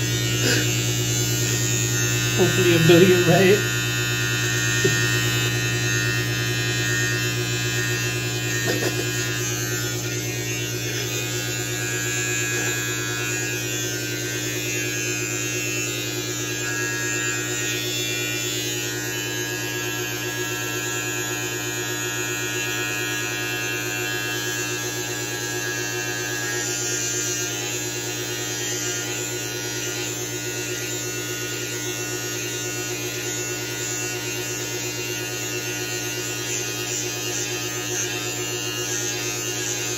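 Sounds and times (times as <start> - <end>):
electric beard trimmer buzzing: 0.0 - 39.9.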